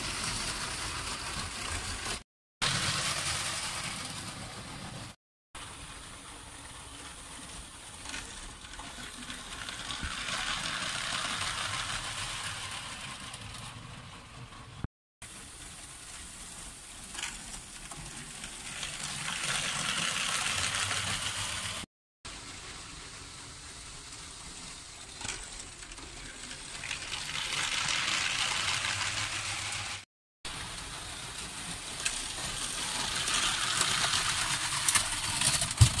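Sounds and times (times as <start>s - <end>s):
toy train rattling on plastic track: 0.0s - 5.0s, 6.5s - 14.7s, 15.7s - 21.9s, 23.7s - 36.0s.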